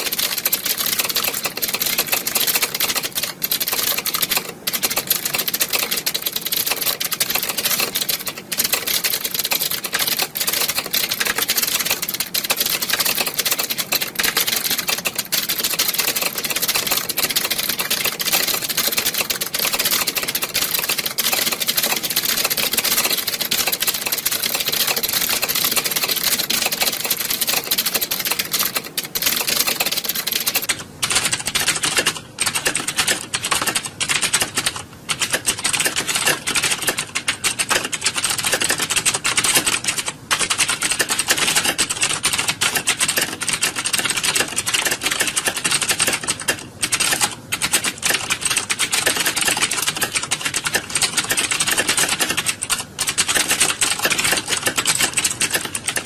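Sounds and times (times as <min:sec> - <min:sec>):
many keyboards typing: 0:00.0 - 0:56.0.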